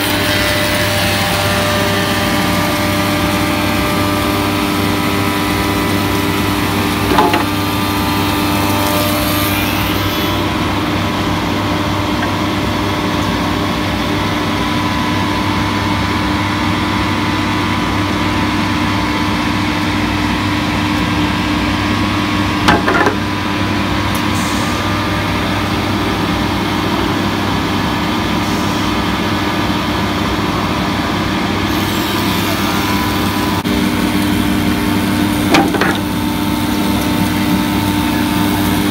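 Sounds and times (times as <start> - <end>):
machine humming with steady tones: 0.0 - 38.9.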